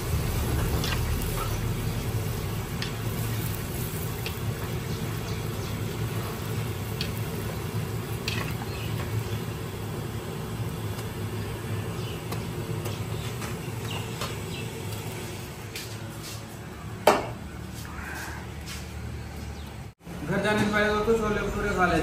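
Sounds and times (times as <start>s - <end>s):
oil sizzling and bubbling: 0.0s - 17.8s
low hum: 0.0s - 19.9s.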